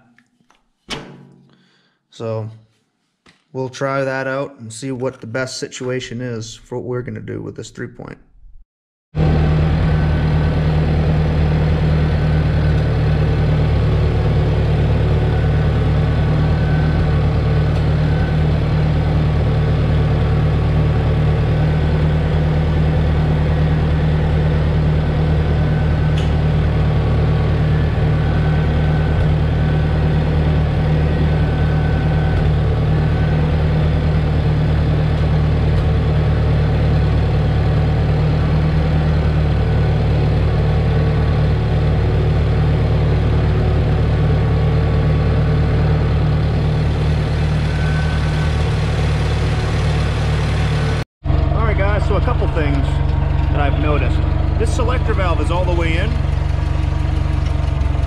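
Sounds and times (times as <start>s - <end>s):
tractor engine idling: 9.2s - 58.0s.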